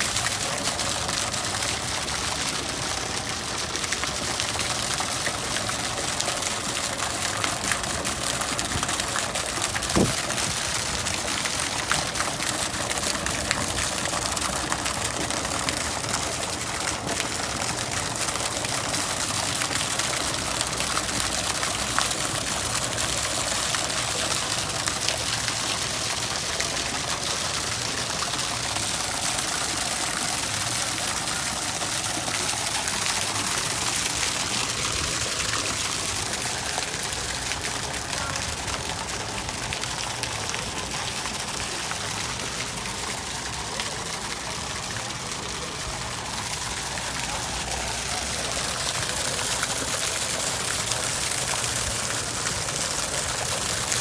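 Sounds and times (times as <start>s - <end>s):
water fountain splashing into pool: 0.0s - 54.0s.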